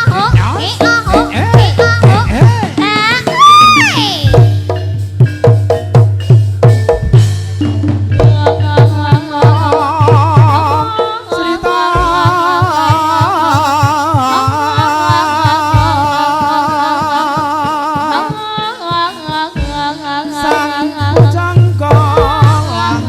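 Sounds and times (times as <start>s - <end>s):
fast steady drumming: 0.0s - 23.0s.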